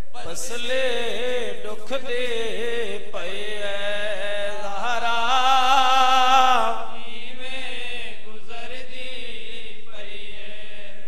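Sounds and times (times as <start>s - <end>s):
man singing a mourning lament: 0.0s - 11.0s.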